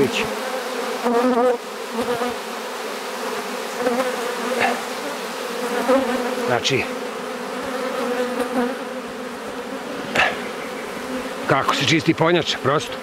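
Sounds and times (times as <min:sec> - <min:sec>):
bees buzzing in a hum: 0:00.0 - 0:13.0
single bee buzzing close by: 0:00.0 - 0:13.0.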